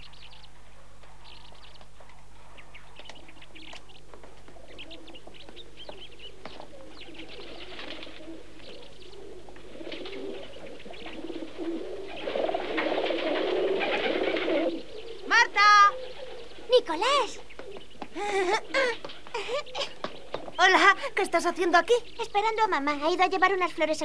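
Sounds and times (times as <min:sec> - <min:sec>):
pigeons cooing: 0:00.0 - 0:24.0
small birds chirping: 0:00.0 - 0:24.0.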